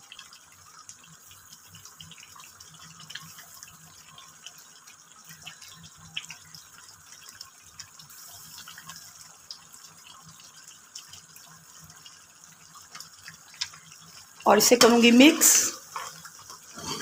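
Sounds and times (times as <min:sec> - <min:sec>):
gravy bubbling and sizzling in pan: 0:00.0 - 0:17.0.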